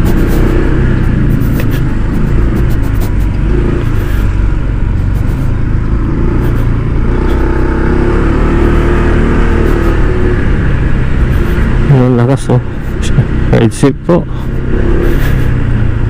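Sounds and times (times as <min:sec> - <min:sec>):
scooter engine running: 0:00.0 - 0:16.0
wind and road noise: 0:00.0 - 0:16.0.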